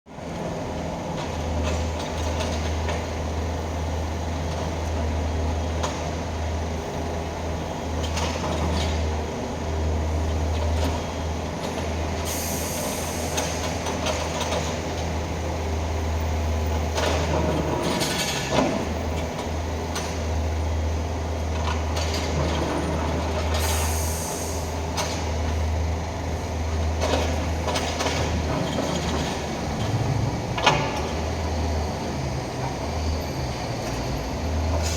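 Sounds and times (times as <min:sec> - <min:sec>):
excavator engine running: 0:00.1 - 0:34.9.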